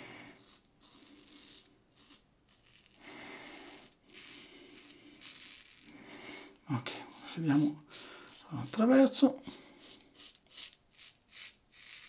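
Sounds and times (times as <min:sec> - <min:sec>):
razor scraping stubble: 0:00.0 - 0:12.0.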